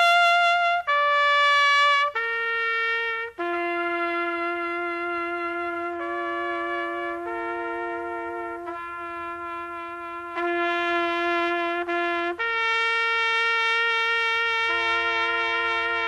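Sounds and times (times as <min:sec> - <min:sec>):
solo horn playing slow melody: 0:00.0 - 0:16.0.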